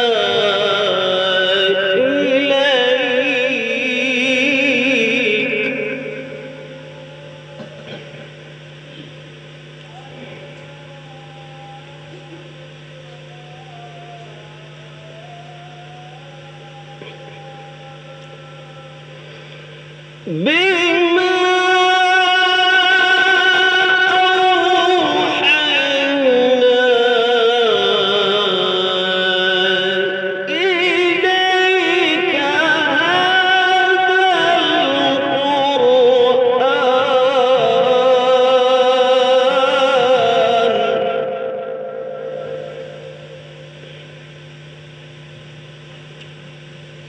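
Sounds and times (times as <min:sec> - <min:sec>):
person singing slow melody: 0:00.0 - 0:47.0
steady low hum: 0:00.0 - 0:47.0.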